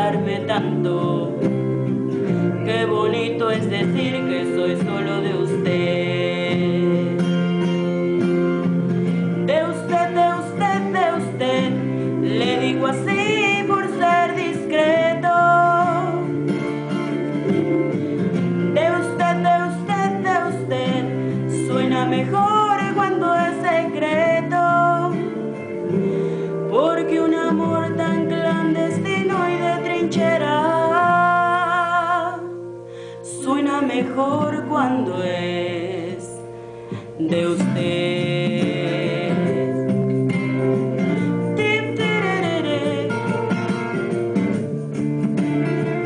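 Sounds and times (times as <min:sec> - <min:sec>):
woman singing: 0:00.0 - 0:07.6, 0:09.4 - 0:16.9, 0:18.7 - 0:32.6, 0:33.2 - 0:40.2, 0:41.1 - 0:43.7
acoustic guitar: 0:00.0 - 0:46.0.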